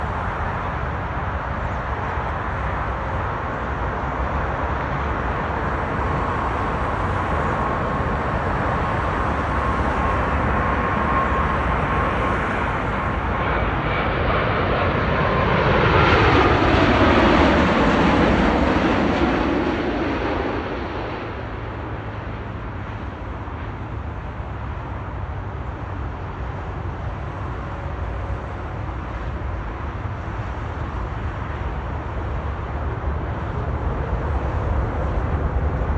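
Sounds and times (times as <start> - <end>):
jet airliner engines landing: 0.0 - 35.9.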